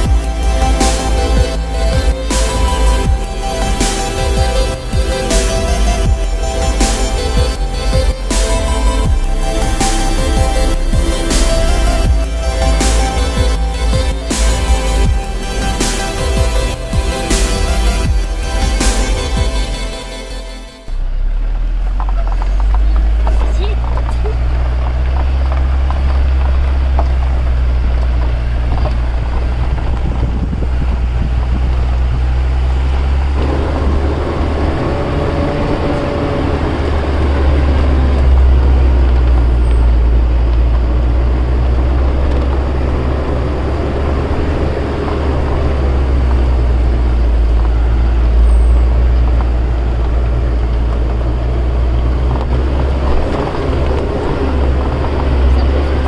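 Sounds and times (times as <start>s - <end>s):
deep engine and road rumble: 0.0s - 56.0s
higher wavering engine note: 0.0s - 56.0s.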